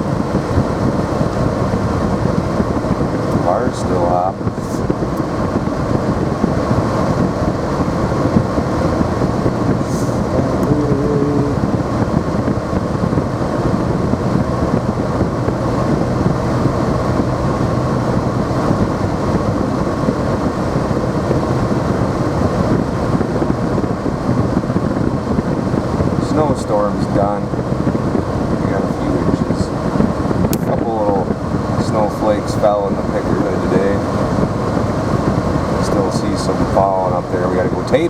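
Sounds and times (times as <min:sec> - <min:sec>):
car engine and tyre rumble: 0:00.0 - 0:38.0.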